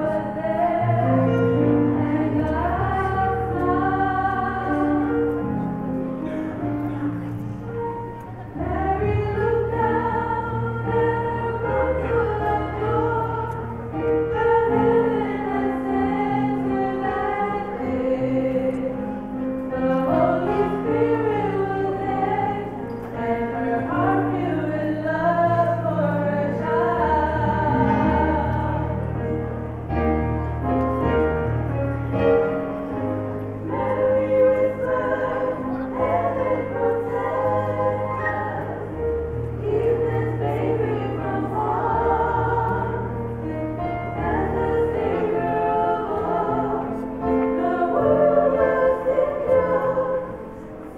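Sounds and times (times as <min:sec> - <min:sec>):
women singing in harmony: 0:00.0 - 0:05.7, 0:08.4 - 0:29.4, 0:33.5 - 0:50.9.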